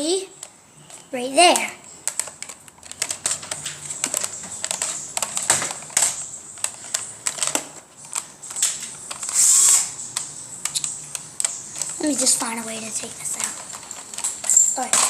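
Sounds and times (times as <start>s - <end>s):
toy blaster plastic clicks and rattles: 0.4s - 15.0s.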